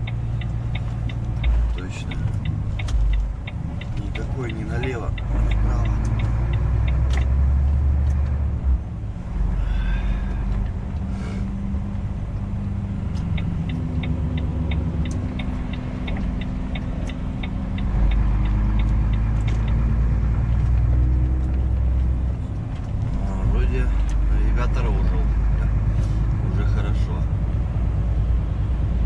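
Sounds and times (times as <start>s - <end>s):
turn signal ticking: 0.0s - 9.3s, 10.2s - 29.0s
truck engine running: 0.0s - 29.0s.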